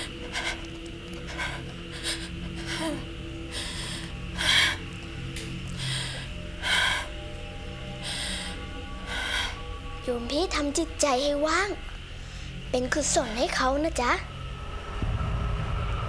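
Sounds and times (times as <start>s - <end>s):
dramatic background music drone: 0.0s - 16.0s.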